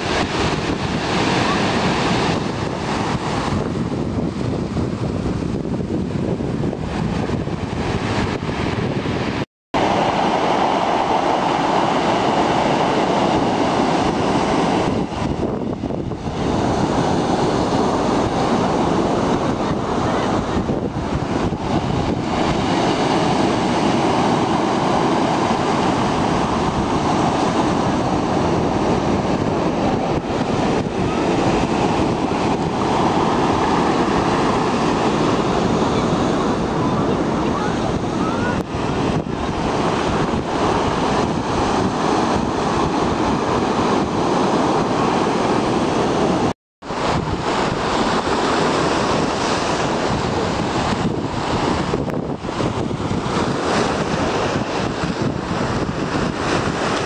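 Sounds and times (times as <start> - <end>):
sea waves breaking on shore: 0.0 - 57.0
wind on microphone: 0.0 - 57.0.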